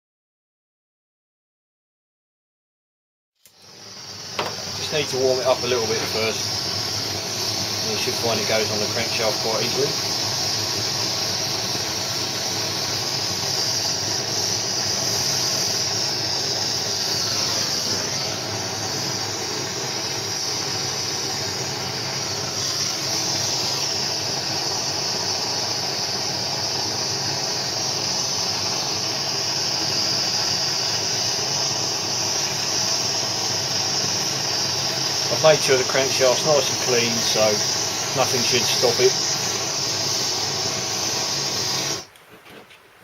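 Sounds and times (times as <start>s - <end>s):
heating tool hissing: 3.4s - 43.0s.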